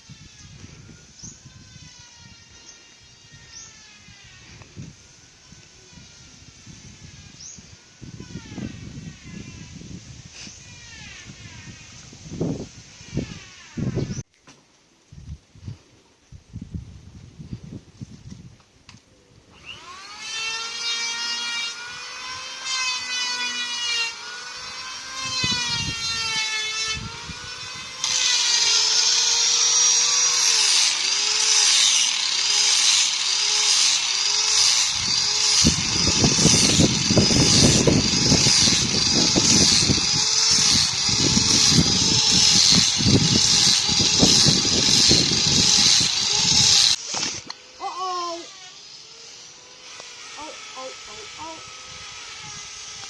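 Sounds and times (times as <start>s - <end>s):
electric drill whining: 0.0s - 14.2s, 19.5s - 53.0s.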